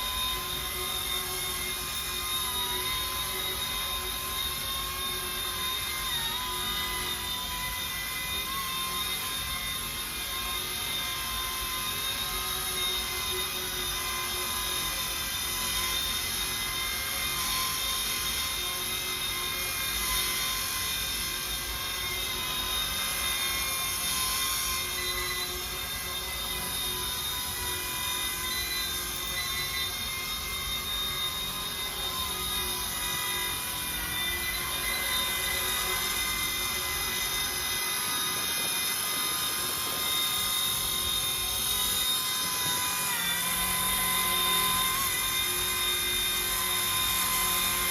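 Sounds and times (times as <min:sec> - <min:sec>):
rc helicopter motor whine: 0:00.0 - 0:47.9.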